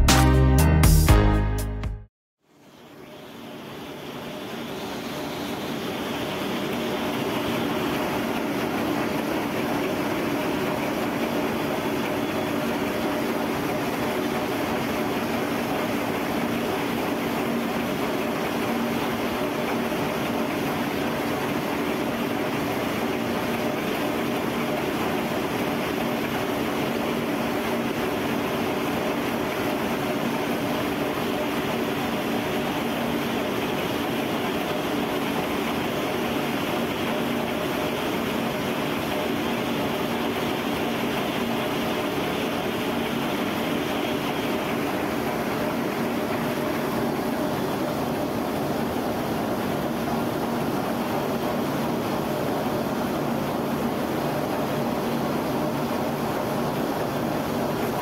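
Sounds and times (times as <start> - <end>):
machinery din with humming tones: 2.8 - 58.0.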